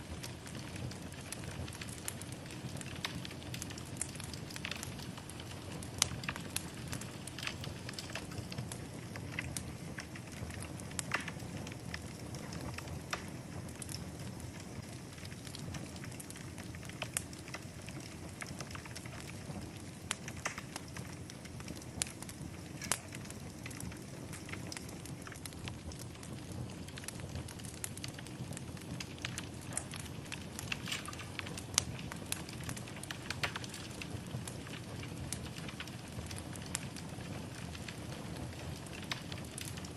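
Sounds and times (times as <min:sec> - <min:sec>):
fire crackling and popping: 0:00.0 - 0:39.9
flames rumbling in fireplace: 0:00.0 - 0:39.9.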